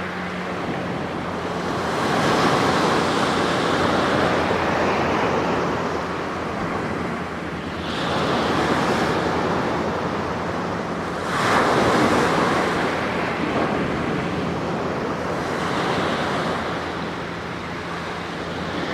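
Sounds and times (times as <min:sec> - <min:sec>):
sea waves washing ashore: 0:00.0 - 0:18.9.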